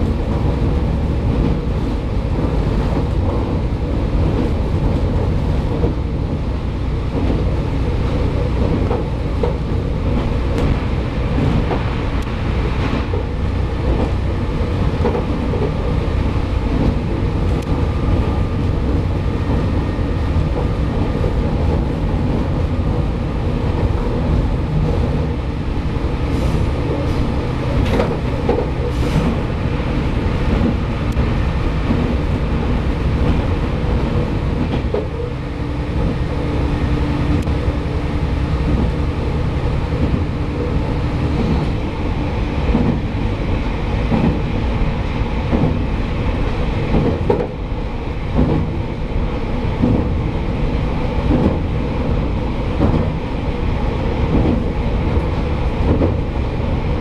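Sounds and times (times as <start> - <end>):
railcar engine and wheel rumble: 0.0 - 57.0.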